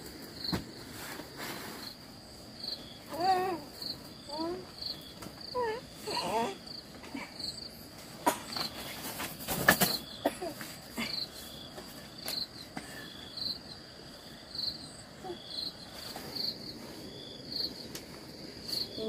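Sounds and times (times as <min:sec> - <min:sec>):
insect chirp: 0:00.0 - 0:19.0
insects trilling: 0:00.0 - 0:19.0.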